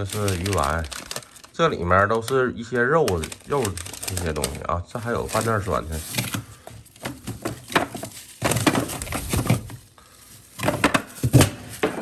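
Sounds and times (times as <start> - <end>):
frozen packs knocking together: 0.0 - 12.0
plastic bags crinkling: 0.0 - 12.0.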